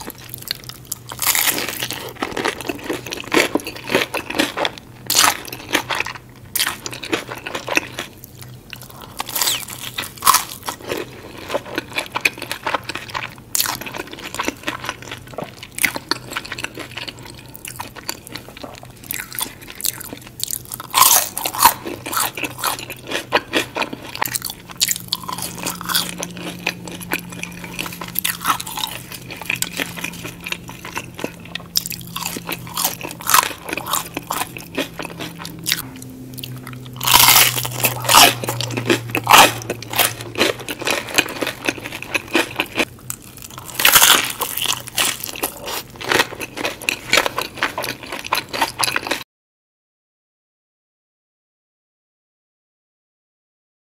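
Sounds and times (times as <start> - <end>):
chewing: 0.0 - 49.2
crunchy bites of fried food: 0.0 - 49.2.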